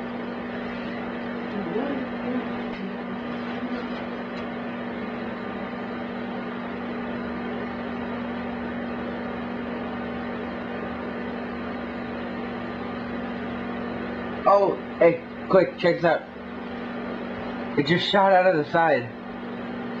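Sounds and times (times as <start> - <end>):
microwave oven humming and whirring: 0.0 - 20.0.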